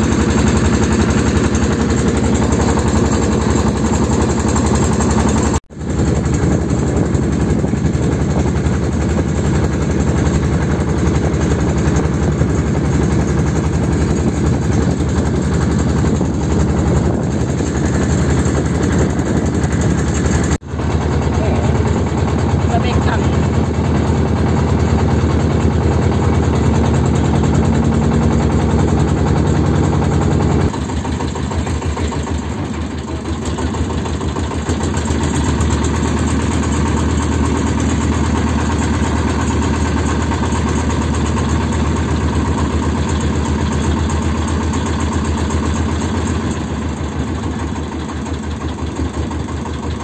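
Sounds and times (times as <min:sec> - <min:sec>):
motorboat engine running: 0:00.0 - 0:50.0.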